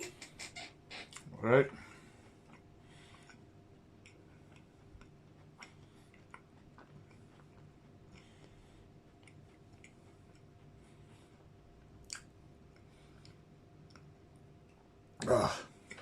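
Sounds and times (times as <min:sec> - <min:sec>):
faint steady hum: 0:00.0 - 0:16.0
person quietly eating ice cream: 0:01.0 - 0:16.0.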